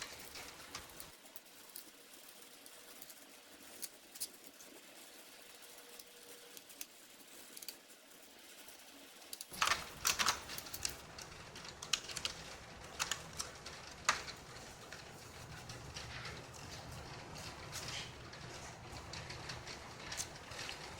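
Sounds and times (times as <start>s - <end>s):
small hard parts clicking: 0.0s - 20.9s.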